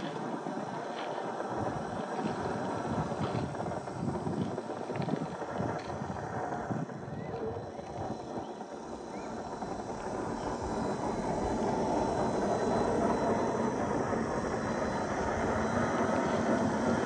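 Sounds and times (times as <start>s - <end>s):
toy car drivetrain running: 0.0s - 17.0s.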